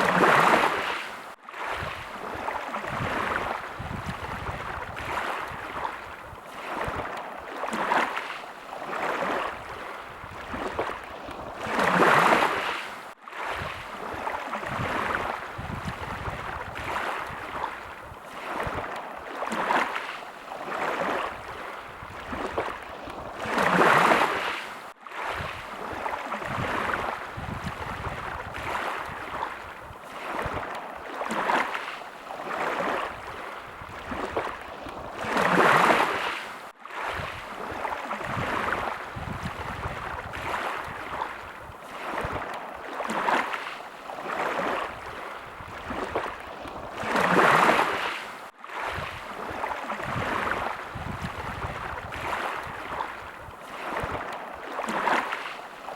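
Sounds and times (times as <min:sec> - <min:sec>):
small sea waves lapping: 0:00.0 - 0:55.9.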